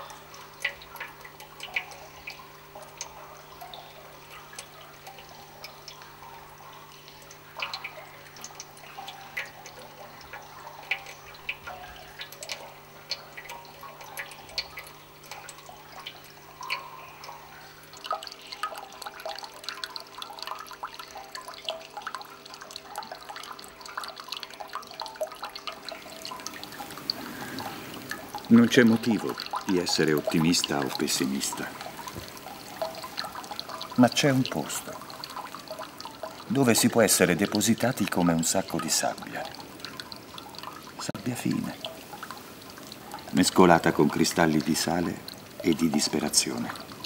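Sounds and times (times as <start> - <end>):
faint steady hum: 0.0 - 47.0
water dripping into metal basin: 0.0 - 47.0.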